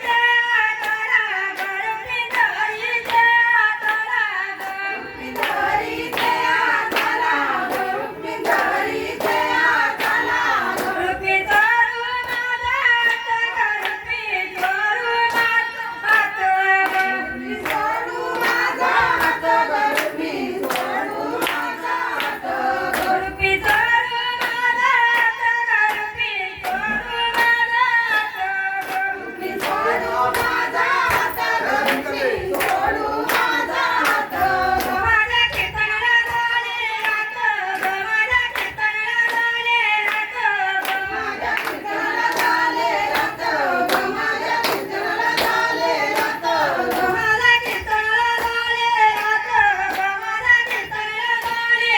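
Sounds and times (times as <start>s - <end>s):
hand claps: 0.0s - 51.9s
woman singing devotional song: 0.0s - 51.9s.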